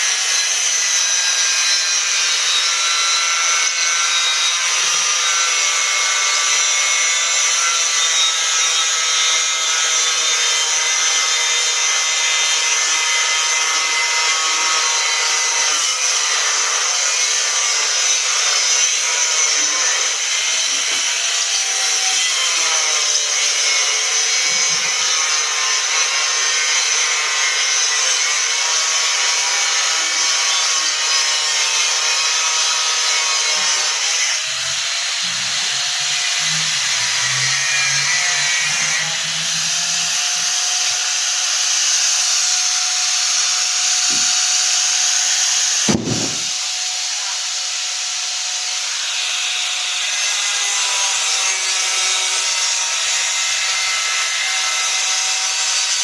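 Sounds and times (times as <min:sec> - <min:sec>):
power tool whining: 0:00.0 - 0:56.0.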